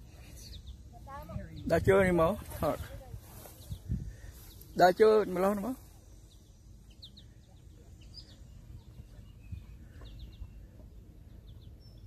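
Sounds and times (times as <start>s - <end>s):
faint bird chirps: 0.0s - 1.8s, 2.7s - 12.0s.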